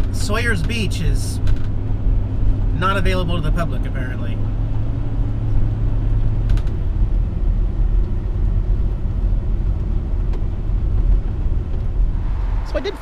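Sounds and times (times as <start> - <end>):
motorhome engine rumble: 0.0 - 13.0.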